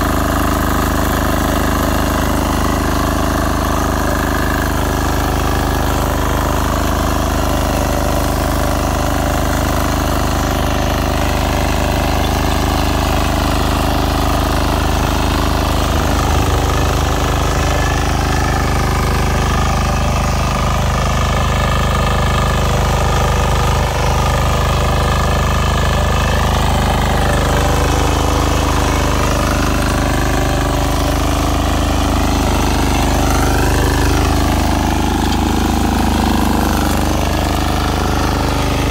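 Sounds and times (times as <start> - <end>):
power tiller engine running: 0.0 - 38.9
tines working through soil: 0.0 - 38.9.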